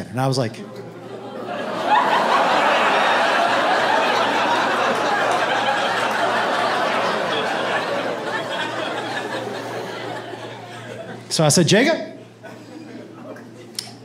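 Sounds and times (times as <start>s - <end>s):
audience laughing: 0.9s - 11.3s, 12.2s - 13.8s.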